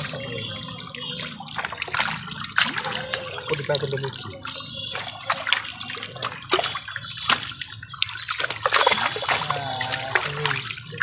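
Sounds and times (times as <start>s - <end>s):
fish splashing in water: 0.0s - 11.0s.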